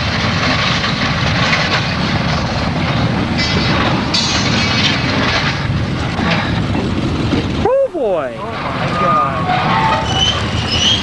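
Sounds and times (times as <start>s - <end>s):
train heavy rumble: 0.0s - 11.0s.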